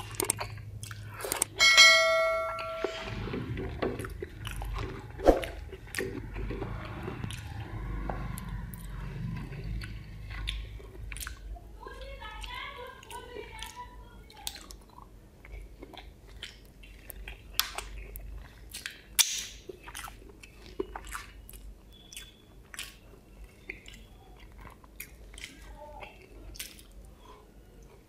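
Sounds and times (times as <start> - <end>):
chewing with wet mouth smacks: 0.0 - 1.5, 3.6 - 28.0.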